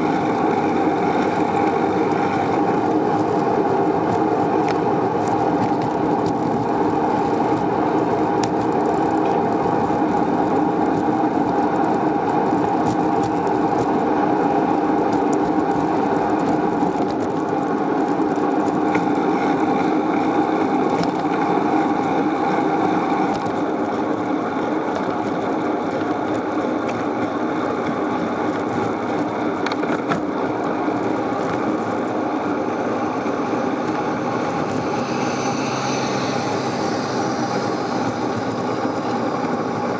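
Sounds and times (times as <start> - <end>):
bicycle whirring on pavement: 0.0 - 39.9.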